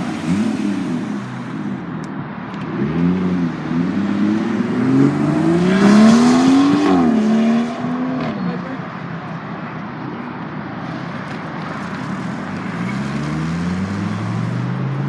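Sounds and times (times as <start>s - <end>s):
car engine revving and accelerating: 0.0s - 2.0s, 2.6s - 9.0s, 11.0s - 15.0s.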